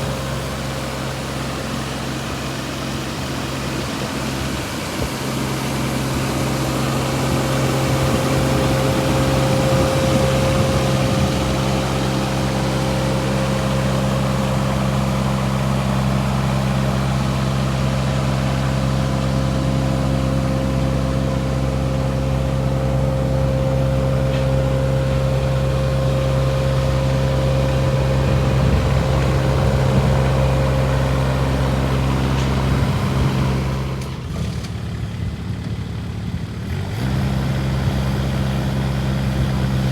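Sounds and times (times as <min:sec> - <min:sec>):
mini excavator diesel engine: 0:00.0 - 0:39.9.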